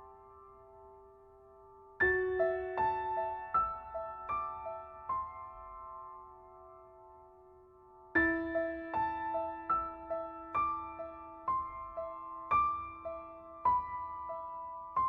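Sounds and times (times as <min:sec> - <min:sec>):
slow soft piano music: 0:00.0 - 0:15.0.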